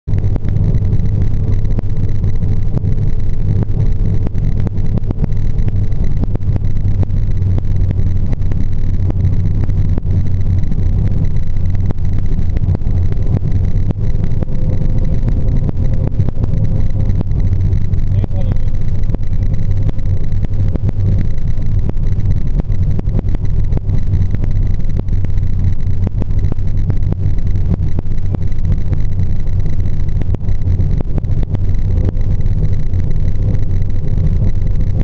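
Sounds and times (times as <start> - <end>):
car cabin road and engine noise: 0.0 - 35.0
faint ticks: 0.1 - 35.0.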